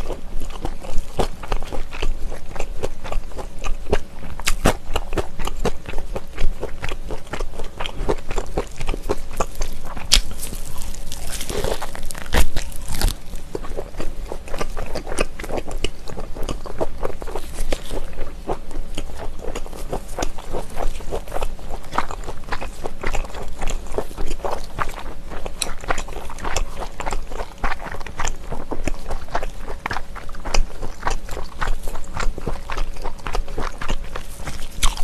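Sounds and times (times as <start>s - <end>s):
wet chewing: 0.0s - 35.0s
pork belly being bitten: 0.5s - 35.0s.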